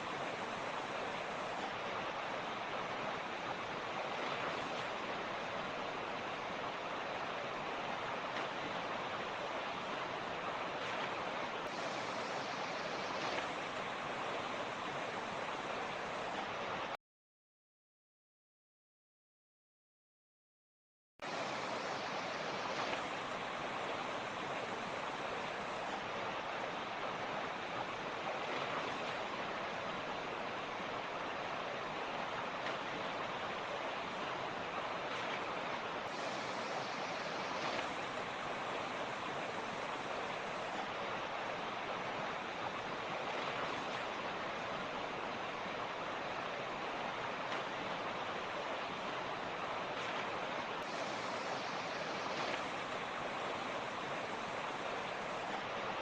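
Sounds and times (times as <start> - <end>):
creek water flowing: 0.0 - 17.0, 21.2 - 56.0.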